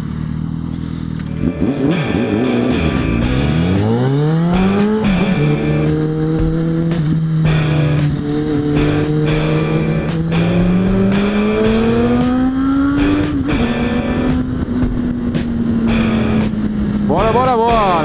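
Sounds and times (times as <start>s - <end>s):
motorcycle engine accelerating: 0.0s - 18.0s
background music with steady beat: 1.7s - 18.0s.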